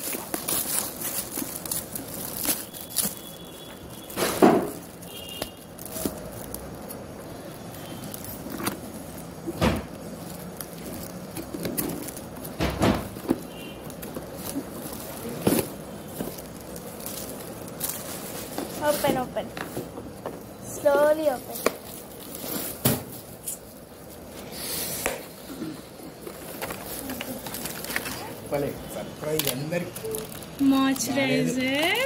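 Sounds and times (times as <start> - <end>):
foil gift wrap crinkling: 0.0 - 32.0.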